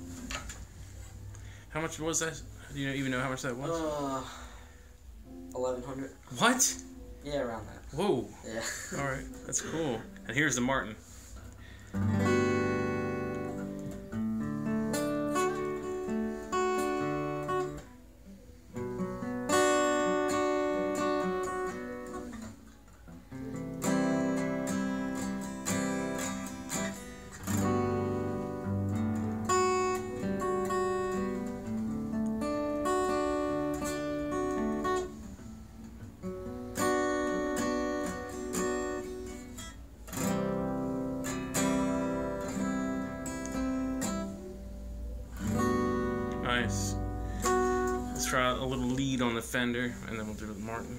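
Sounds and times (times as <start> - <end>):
acoustic guitar strumming chords: 0.0 - 50.9.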